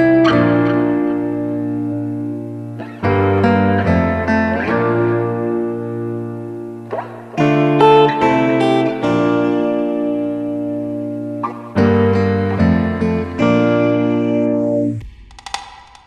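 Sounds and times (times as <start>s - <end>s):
instrumental chords ringing out: 0.0s - 15.0s.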